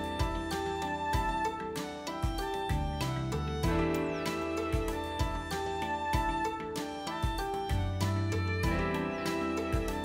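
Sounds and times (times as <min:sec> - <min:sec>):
instrumental music with low beat: 0:00.0 - 0:10.0.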